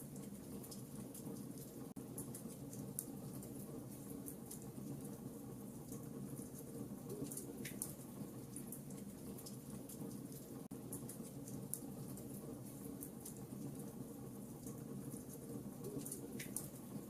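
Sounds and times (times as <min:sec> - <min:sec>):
fire popping and snapping: 0:00.1 - 0:17.0.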